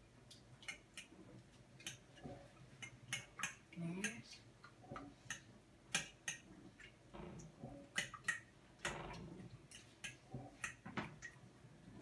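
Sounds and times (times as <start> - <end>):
fork beating eggs in dish: 0.3 - 11.4.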